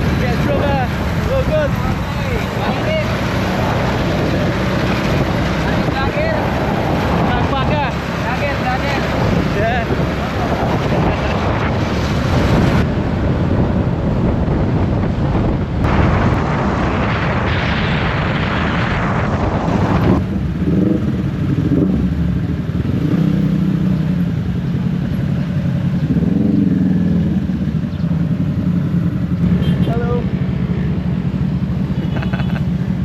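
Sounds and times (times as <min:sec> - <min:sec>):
wind rushing on microphone: 0:00.0 - 0:30.8
motorcycle engine humming: 0:00.0 - 0:33.0.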